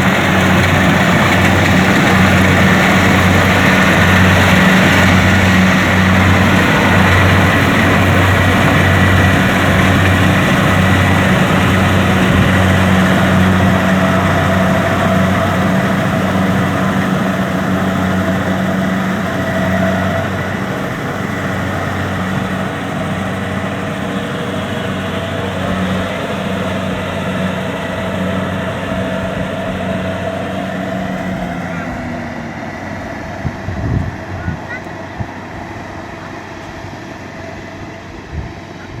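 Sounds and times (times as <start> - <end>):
combine harvester diesel engine: 0.0 - 39.0
machinery noise: 0.0 - 39.0.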